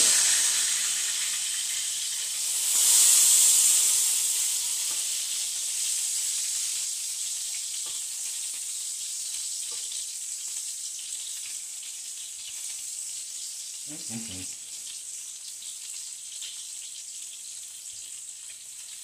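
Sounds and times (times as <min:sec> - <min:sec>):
patties sizzling in frying pan: 0:00.0 - 0:19.0.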